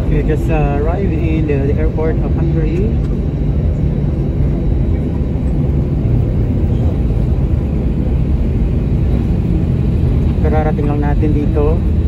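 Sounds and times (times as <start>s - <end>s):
airliner cabin low rumble: 0.0s - 12.0s.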